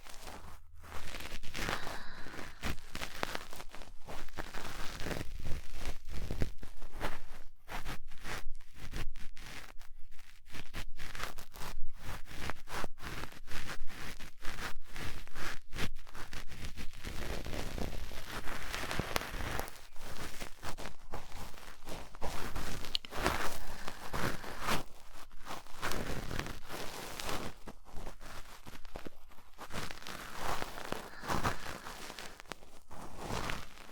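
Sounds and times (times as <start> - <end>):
cotton swab rubbing microphone: 0.0 - 9.6, 10.7 - 33.9.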